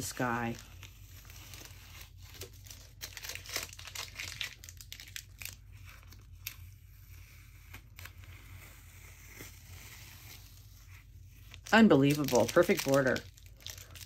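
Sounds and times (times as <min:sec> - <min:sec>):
masking tape ripping off paper: 0:00.0 - 0:14.0.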